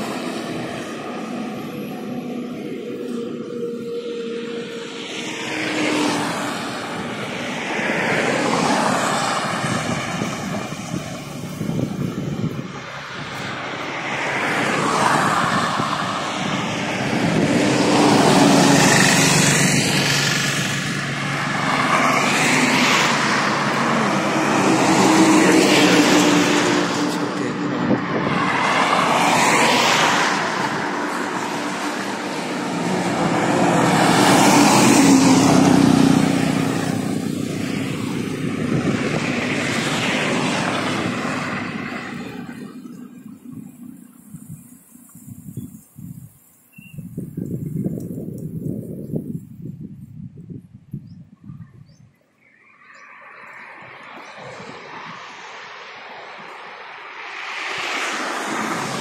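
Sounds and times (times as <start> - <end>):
vehicles passing by: 0.0 - 59.0.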